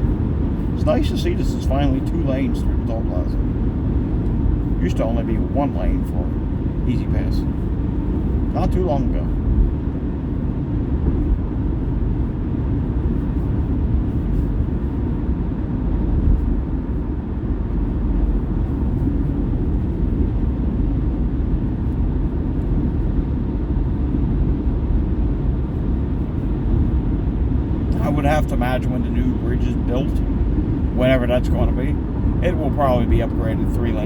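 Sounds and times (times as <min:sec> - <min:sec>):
car driving on highway: 0:00.0 - 0:34.0.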